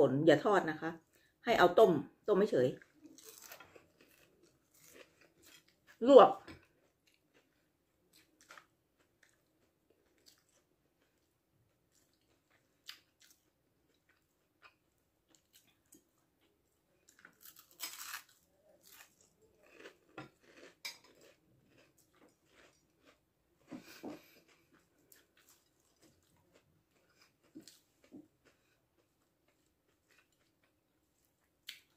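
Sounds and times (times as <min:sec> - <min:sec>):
chewing and crunching food: 0:02.7 - 0:31.9.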